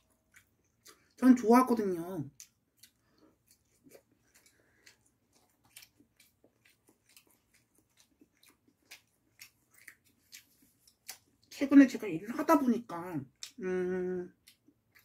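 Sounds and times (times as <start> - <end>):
faint chewing: 0.0 - 1.4, 2.2 - 12.4, 13.2 - 15.0.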